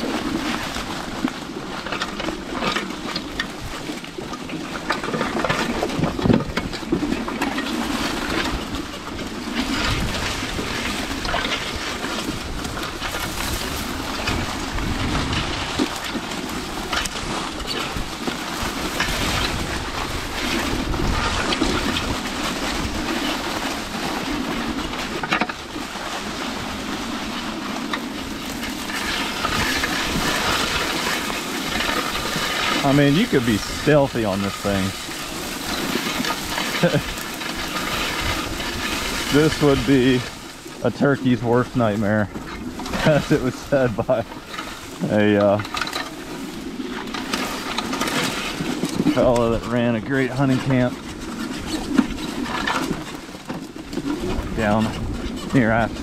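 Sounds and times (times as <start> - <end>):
tyres crunching over dry leaves: 0.0 - 56.0.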